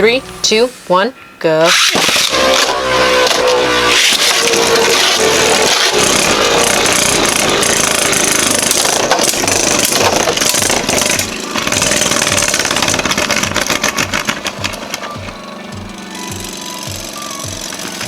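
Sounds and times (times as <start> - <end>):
low pulses: 0.0 - 18.0.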